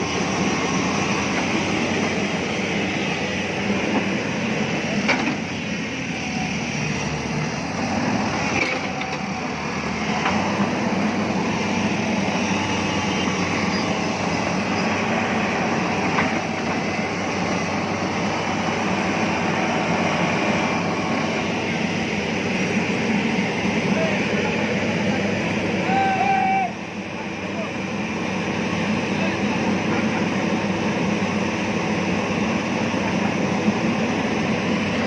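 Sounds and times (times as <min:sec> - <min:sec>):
heavy diesel machinery rumbling: 0:00.0 - 0:35.0.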